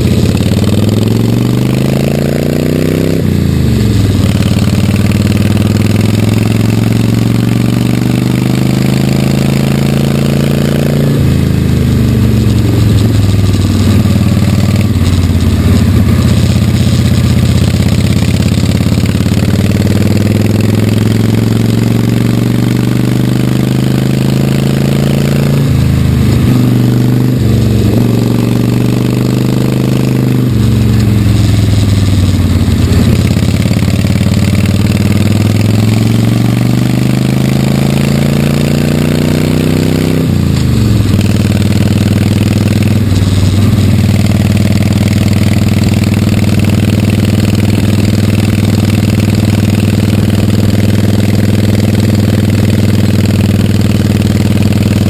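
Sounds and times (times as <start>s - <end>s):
motorcycle engine pulling hard: 0.0s - 55.0s.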